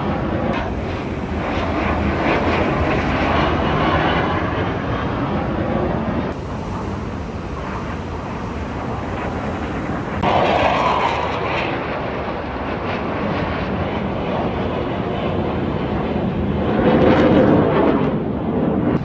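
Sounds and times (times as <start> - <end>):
aircraft engines passing: 0.0 - 19.0.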